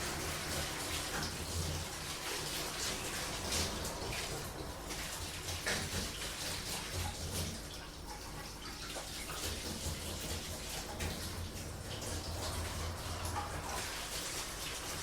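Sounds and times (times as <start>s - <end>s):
tap water running and splashing: 0.0s - 15.0s
washing machine humming: 0.0s - 15.0s.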